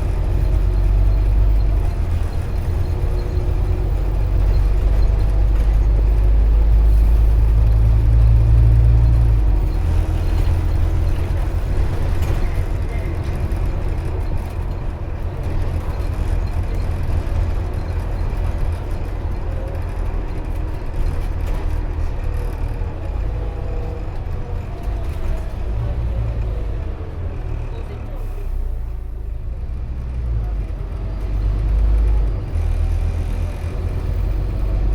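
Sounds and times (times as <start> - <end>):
bus engine rumble: 0.0 - 34.9.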